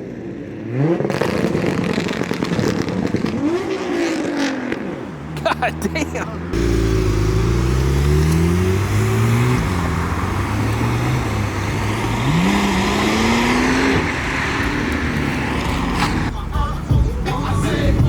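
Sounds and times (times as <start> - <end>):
modified car accelerating hard: 0.1 - 16.3.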